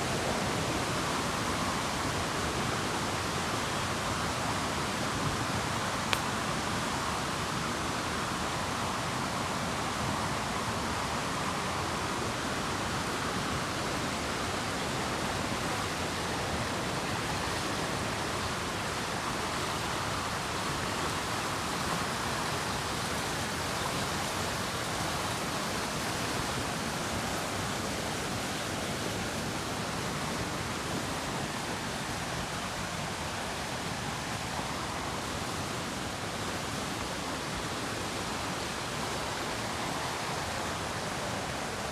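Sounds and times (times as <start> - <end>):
river rapids rushing: 0.0 - 41.9.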